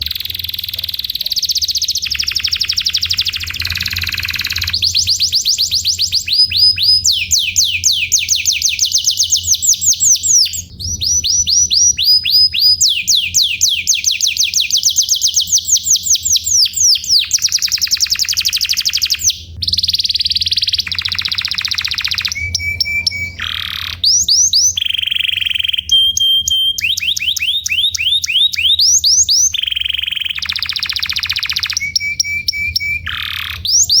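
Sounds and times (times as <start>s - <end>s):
canary singing: 0.0s - 34.0s.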